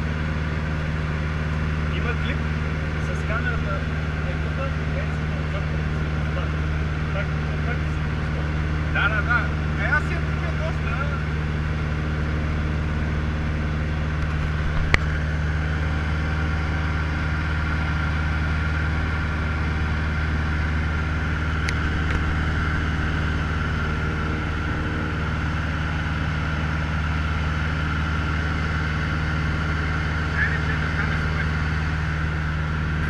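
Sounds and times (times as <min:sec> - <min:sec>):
light aircraft engine droning: 0:00.0 - 0:33.0.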